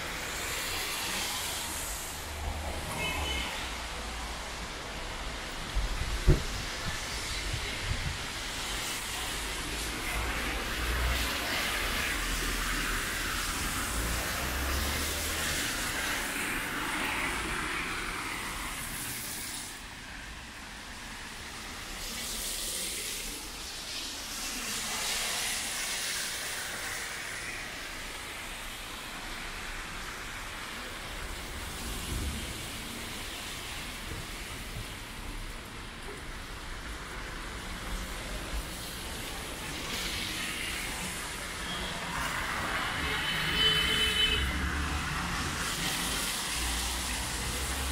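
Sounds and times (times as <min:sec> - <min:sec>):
steady rain hiss: 0:00.0 - 0:47.9
tyres hissing on wet road: 0:00.0 - 0:47.9.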